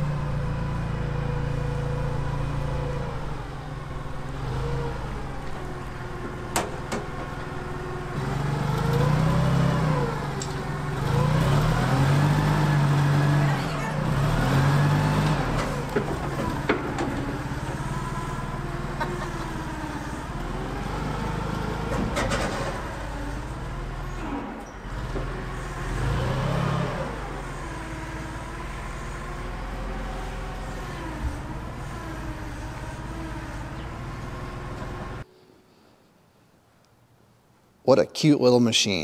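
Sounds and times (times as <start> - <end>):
forklift engine running: 0.0 - 35.3.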